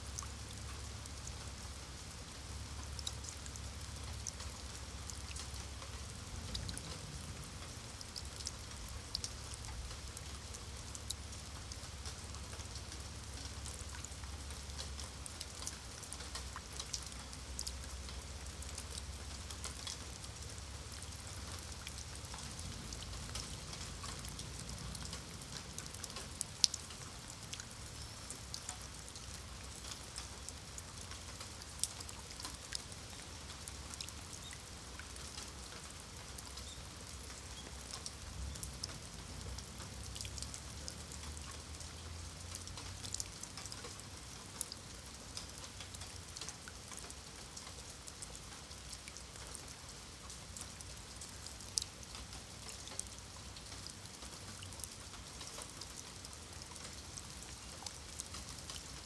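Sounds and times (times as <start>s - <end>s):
rain on stone paving: 0.0s - 59.0s.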